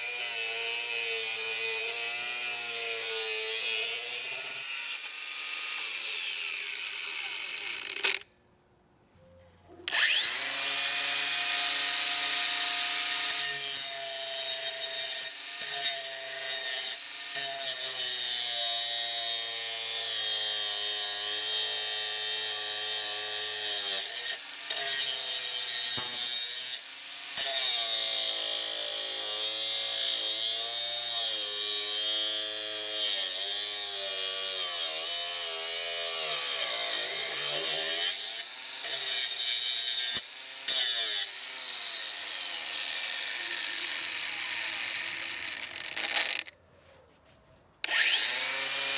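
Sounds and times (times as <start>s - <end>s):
angle grinder whining: 0.0s - 8.3s, 9.8s - 18.6s, 19.2s - 46.6s, 47.8s - 48.9s.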